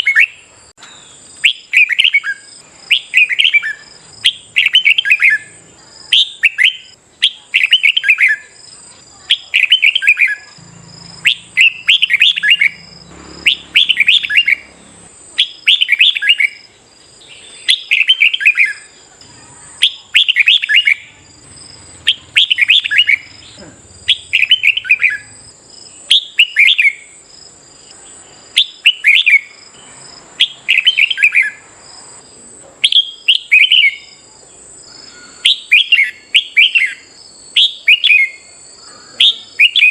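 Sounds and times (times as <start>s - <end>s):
bulbul singing: 0.0s - 39.9s
faint high whine: 0.0s - 39.9s.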